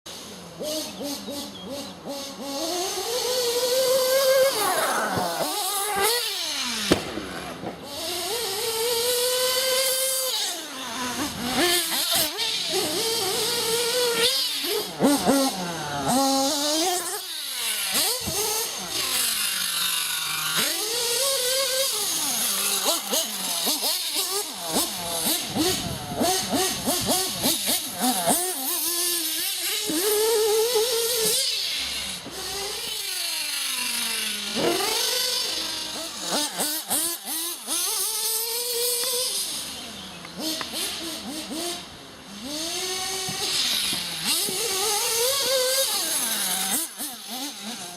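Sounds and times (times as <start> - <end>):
small nitro engine revving: 0.1 - 47.9.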